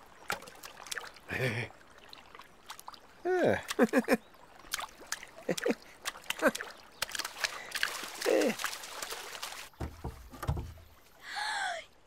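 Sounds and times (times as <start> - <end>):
river water splashing: 0.0 - 11.5.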